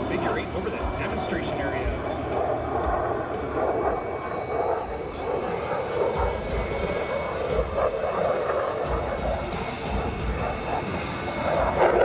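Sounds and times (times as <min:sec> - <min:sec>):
jet engine rushing: 0:00.0 - 0:12.0.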